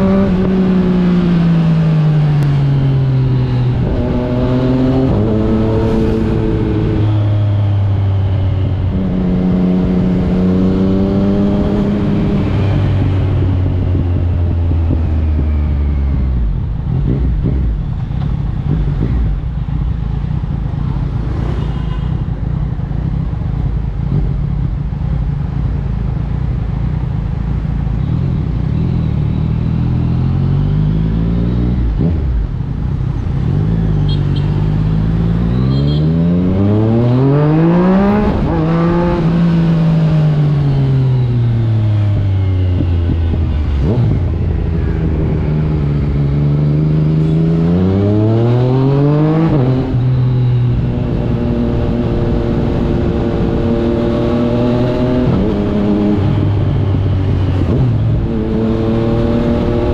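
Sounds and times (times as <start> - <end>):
motorcycle engine accelerating: 0.0 - 25.9, 26.6 - 59.9.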